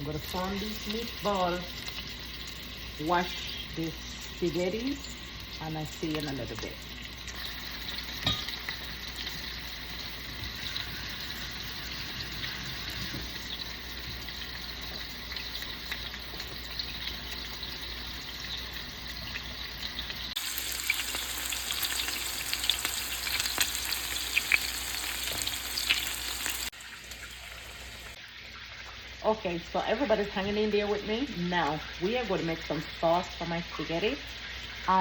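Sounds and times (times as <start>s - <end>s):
oil crackling and popping: 0.0s - 4.4s, 5.0s - 29.1s
meatballs sizzling in oil: 0.0s - 35.0s.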